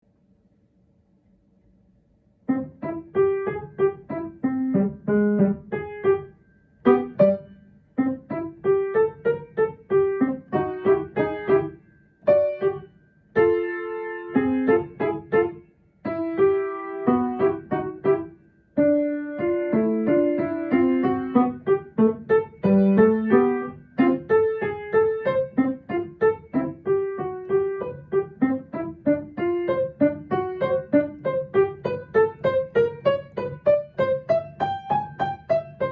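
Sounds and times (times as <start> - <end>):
solo piano playing: 2.5 - 35.9.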